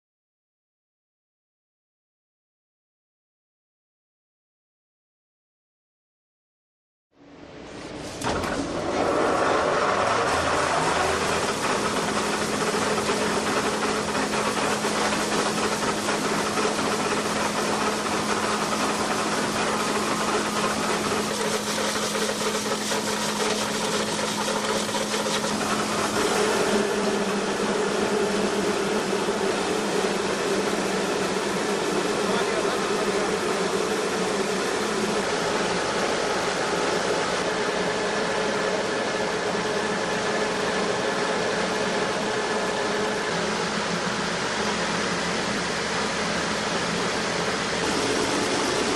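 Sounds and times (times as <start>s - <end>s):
rice mill running: 8.2s - 48.9s.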